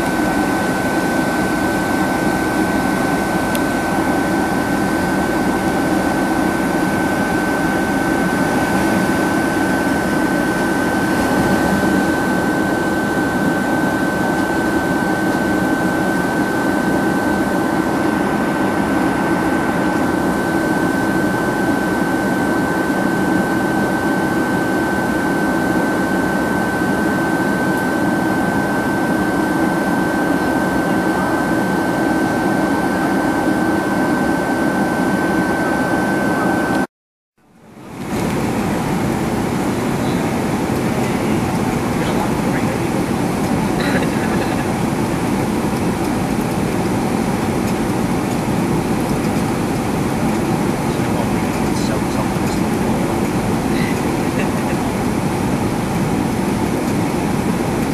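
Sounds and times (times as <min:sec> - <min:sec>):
high-pitched whine: 0:00.0 - 0:36.9, 0:37.7 - 0:57.9
aircraft cabin engine and airflow rush: 0:00.0 - 0:57.9.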